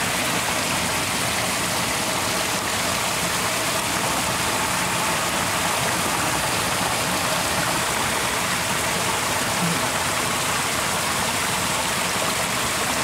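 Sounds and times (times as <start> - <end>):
water pouring into a pool: 0.0 - 13.0.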